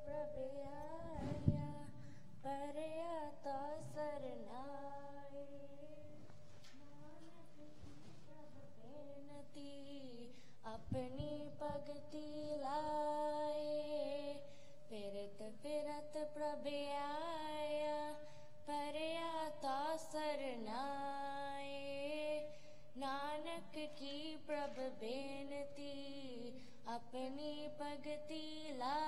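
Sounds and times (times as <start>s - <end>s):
woman singing devotional verse: 0.0s - 29.0s.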